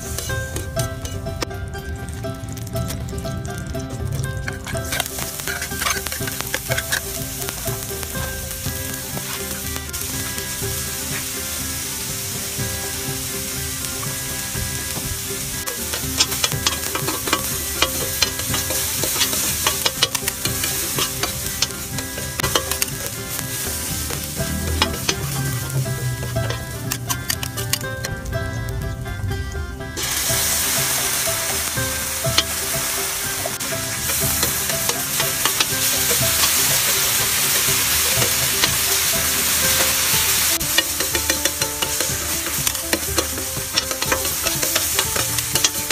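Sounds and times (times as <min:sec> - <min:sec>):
spatula scraping a griddle: 0:00.0 - 0:01.4, 0:04.5 - 0:28.2, 0:30.0 - 0:45.9
vegetables sizzling on a griddle: 0:00.0 - 0:29.0, 0:29.9 - 0:45.9.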